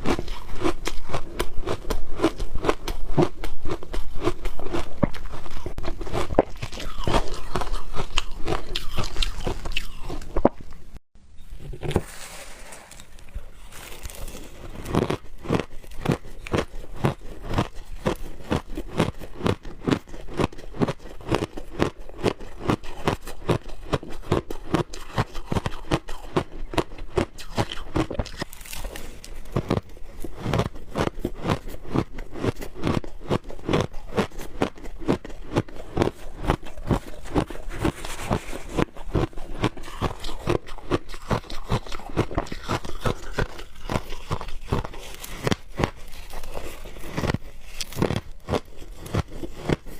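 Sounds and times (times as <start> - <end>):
crunching shaved ice: 0.0 - 10.6, 12.0 - 49.9.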